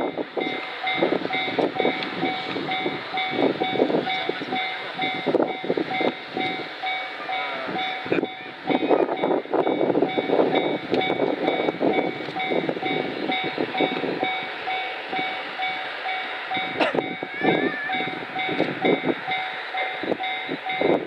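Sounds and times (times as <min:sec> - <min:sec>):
gusty noise: 0:00.0 - 0:21.0
level crossing warning bell: 0:00.0 - 0:21.0.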